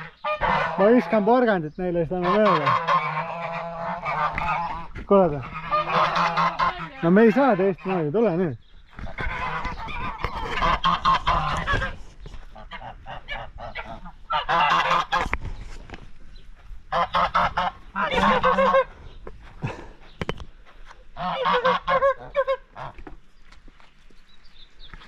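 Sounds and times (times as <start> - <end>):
geese honking: 0.0 - 15.4, 16.8 - 19.3, 20.9 - 23.2.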